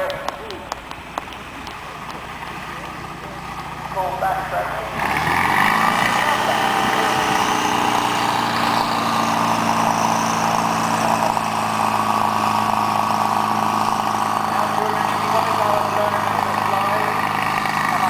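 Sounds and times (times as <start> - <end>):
model aircraft engine running: 1.2 - 18.0.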